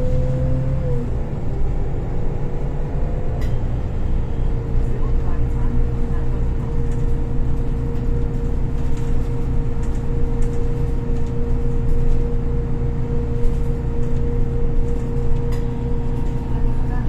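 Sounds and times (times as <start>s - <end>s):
bus engine drone: 0.0s - 17.0s
constant whine: 0.0s - 17.0s.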